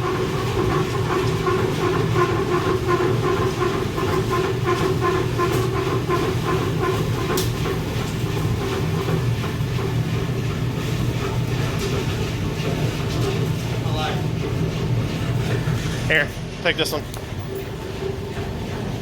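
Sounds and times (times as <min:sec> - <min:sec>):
rhythmic clatter: 0:00.0 - 0:19.0.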